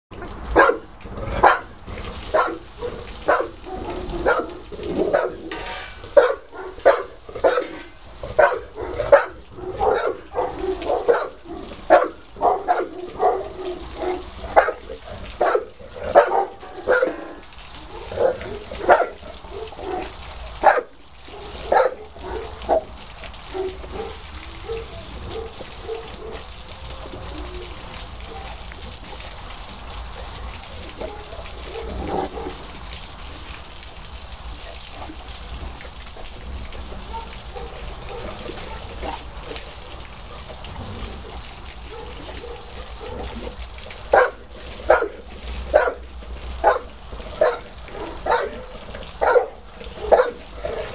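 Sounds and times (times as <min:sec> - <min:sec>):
hose water splashing: 0:00.1 - 0:50.9
dogs barking and yipping: 0:00.4 - 0:29.4, 0:30.2 - 0:32.9, 0:34.4 - 0:50.9.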